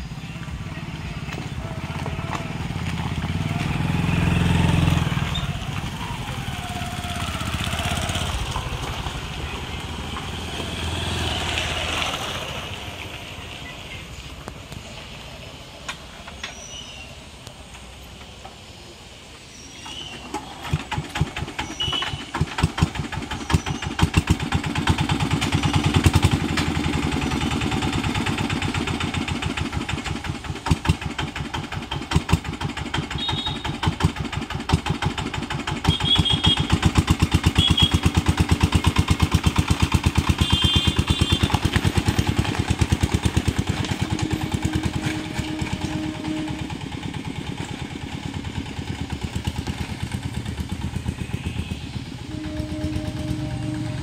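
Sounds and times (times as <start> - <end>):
motorcycles passing: 0.0 - 18.1, 20.1 - 54.0
engine starting and running: 0.0 - 54.0.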